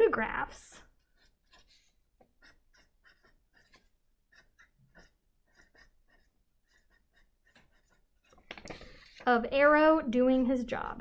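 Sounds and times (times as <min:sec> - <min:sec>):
marker scratching on paper: 0:00.9 - 0:11.0.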